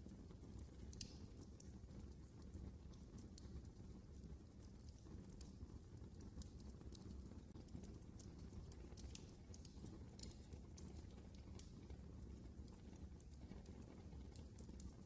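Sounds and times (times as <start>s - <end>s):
fire snapping and popping: 0.0s - 15.0s
low fire rumble: 0.0s - 15.0s.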